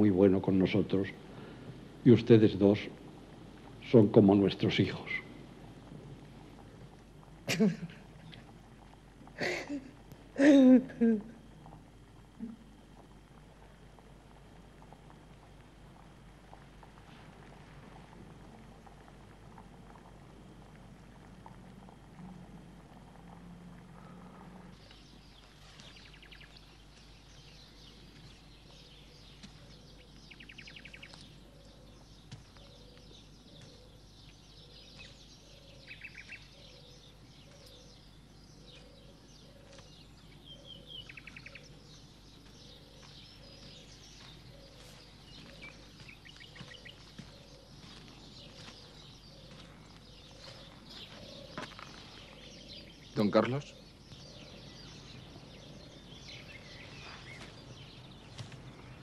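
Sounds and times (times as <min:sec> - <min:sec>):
soft low bird calls: 0:00.0 - 0:59.0.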